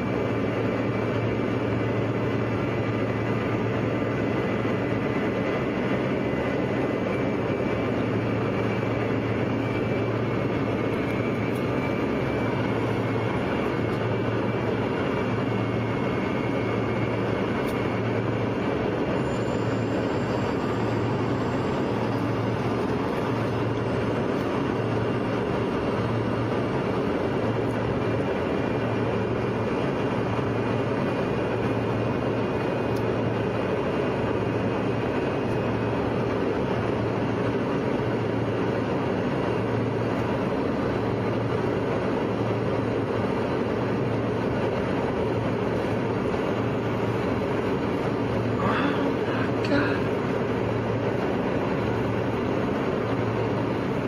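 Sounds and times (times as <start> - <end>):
airliner cabin roar: 0.0 - 54.0
low hum: 0.0 - 54.0.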